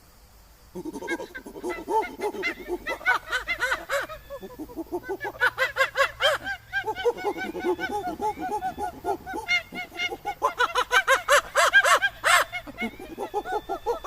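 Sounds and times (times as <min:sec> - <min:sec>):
animals chattering calls: 0:00.7 - 0:14.0.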